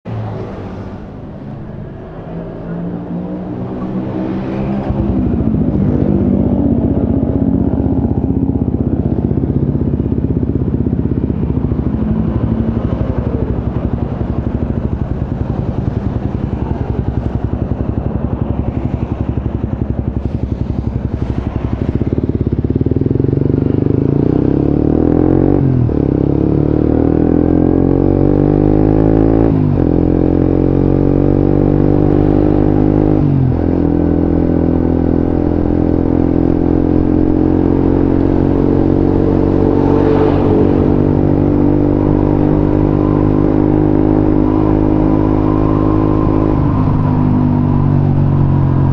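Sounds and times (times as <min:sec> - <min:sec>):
motorcycle engine revving: 0:00.1 - 0:48.9.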